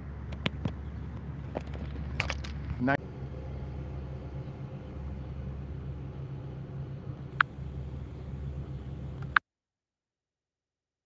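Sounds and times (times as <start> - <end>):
low hum in car cabin: 0.0 - 9.4.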